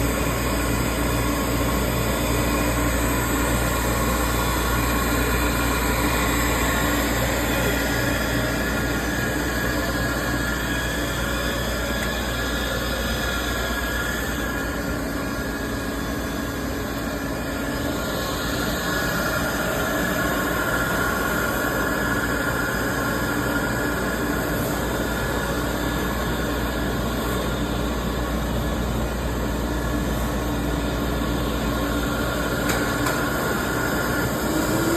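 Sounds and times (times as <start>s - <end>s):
machine rushing hum: 0.0s - 34.9s.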